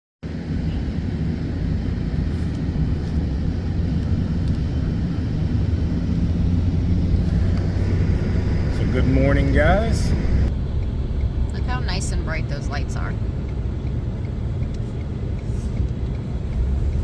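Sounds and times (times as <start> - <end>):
truck engine droning: 0.3 - 17.0.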